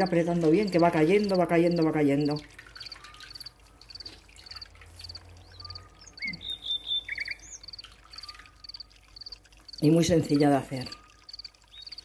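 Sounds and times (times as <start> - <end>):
liquid trickling into a bowl: 0.0 - 12.0
cricket chirping: 0.6 - 6.6, 7.2 - 12.0
bird call: 0.6 - 9.9, 10.8 - 12.0.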